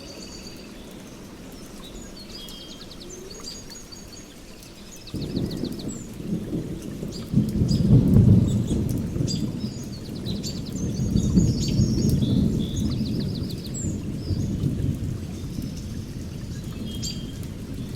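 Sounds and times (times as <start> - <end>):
small birds chirping: 0.0 - 14.7, 15.3 - 17.9
steady rain-like hiss: 0.0 - 17.9.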